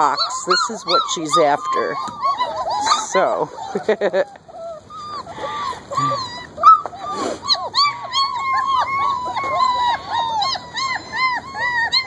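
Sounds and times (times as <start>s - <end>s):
puppies whimpering and yelping: 0.0s - 12.0s.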